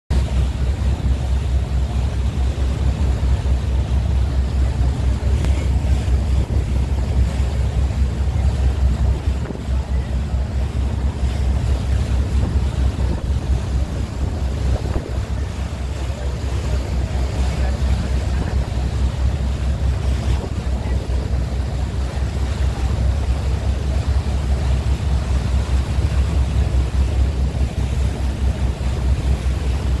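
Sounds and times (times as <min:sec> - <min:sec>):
choppy sea water: 0:00.1 - 0:30.0
wind buffeting microphone: 0:00.1 - 0:30.0.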